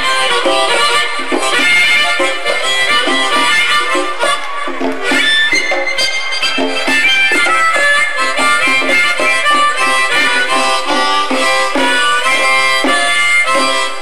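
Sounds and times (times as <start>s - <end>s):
blues harmonica chords: 0.0s - 14.0s.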